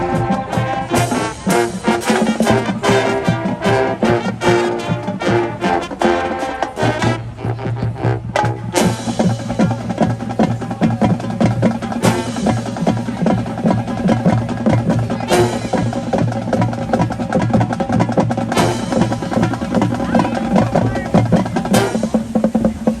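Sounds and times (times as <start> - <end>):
fast drumming: 0.0 - 23.0.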